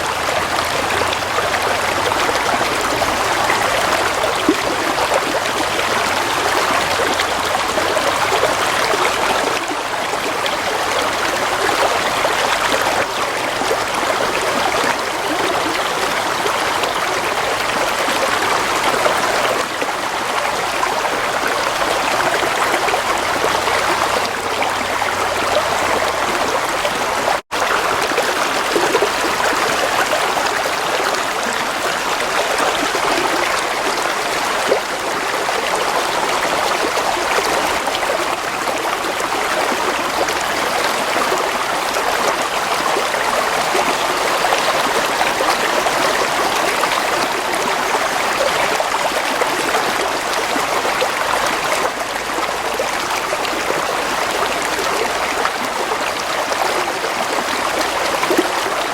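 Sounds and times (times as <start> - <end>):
stream flowing: 0.0 - 58.9.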